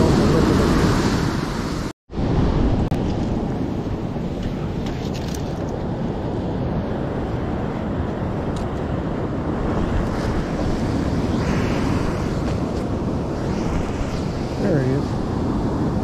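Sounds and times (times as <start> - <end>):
surf washing on beach: 0.0 - 16.0
wind buffeting microphone: 0.0 - 16.0.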